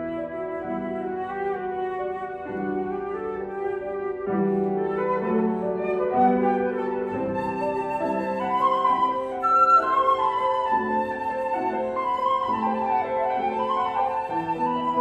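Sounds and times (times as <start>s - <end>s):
flute melody: 0.0s - 15.0s
grand piano accompaniment: 0.0s - 15.0s.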